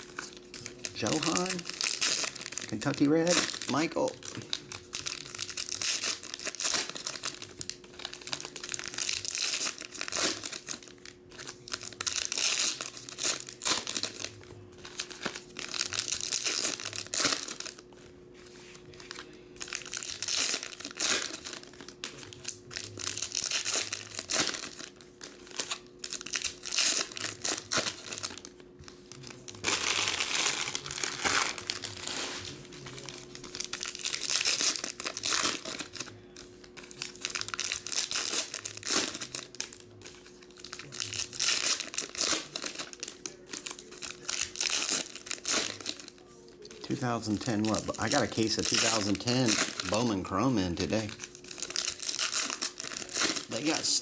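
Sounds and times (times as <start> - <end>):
foil wrappers crinkling and tearing: 0.0 - 54.0.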